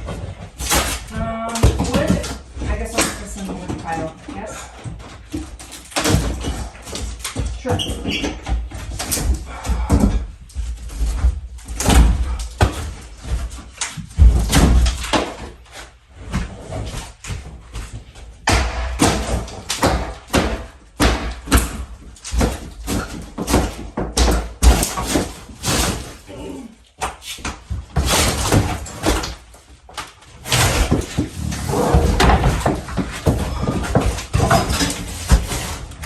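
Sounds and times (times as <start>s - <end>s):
demolition knocks and bangs: 0.0s - 36.0s.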